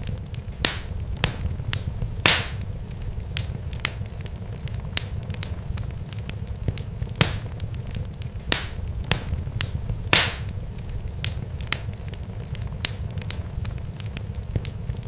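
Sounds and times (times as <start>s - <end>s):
fire crackling and popping: 0.0s - 15.0s
steady low rumble: 0.0s - 15.0s.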